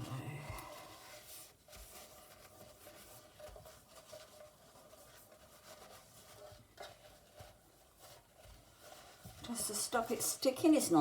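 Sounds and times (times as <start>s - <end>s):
paper towel rubbing cake tin: 0.0s - 11.0s.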